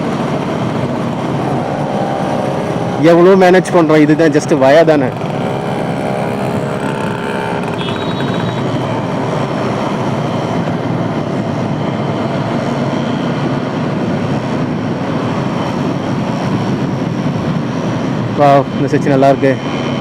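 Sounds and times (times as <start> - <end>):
motorcycle road noise: 0.0 - 20.0
wind rush on microphone: 0.0 - 20.0.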